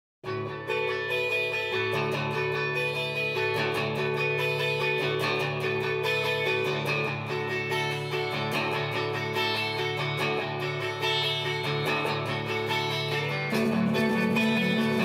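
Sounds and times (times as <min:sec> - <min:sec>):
strummed guitar music with beat: 0:00.2 - 0:15.0.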